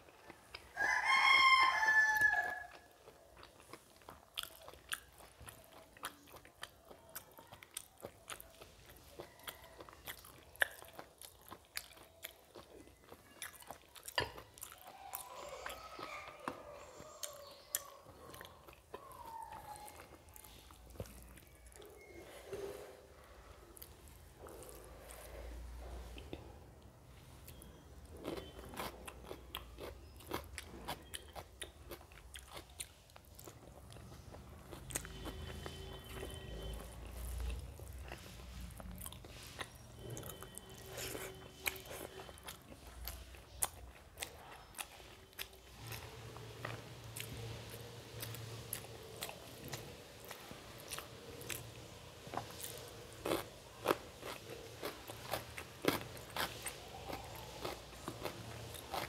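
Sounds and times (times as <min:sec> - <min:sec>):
chewing food: 0:00.0 - 0:59.0.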